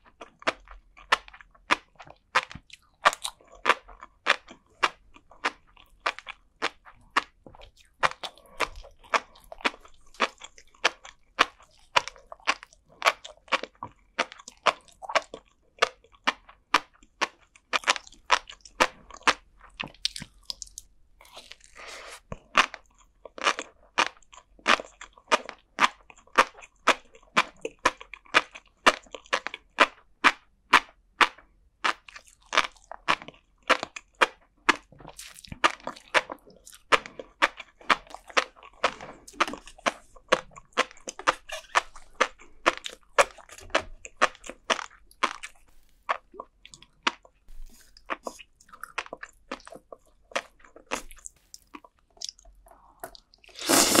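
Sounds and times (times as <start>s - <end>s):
chewing with bursting pops: 0.0s - 54.0s.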